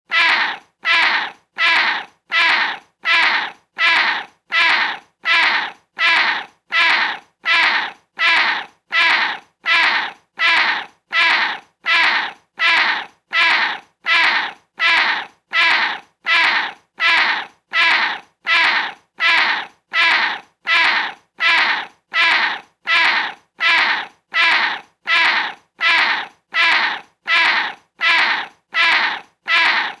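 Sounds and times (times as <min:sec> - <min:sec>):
cat meowing: 0:00.1 - 0:30.0.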